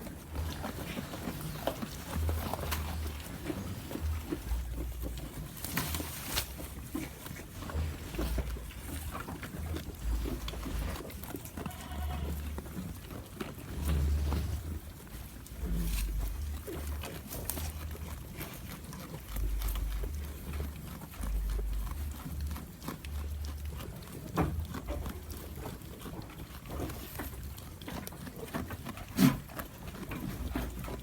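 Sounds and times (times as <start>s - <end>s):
goat chewing crunchy food: 0.0s - 31.0s.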